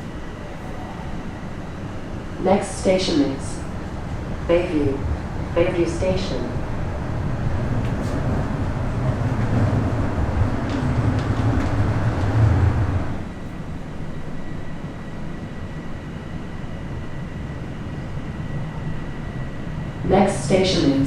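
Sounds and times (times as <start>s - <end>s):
subway train rumbling on rails: 0.0s - 21.0s.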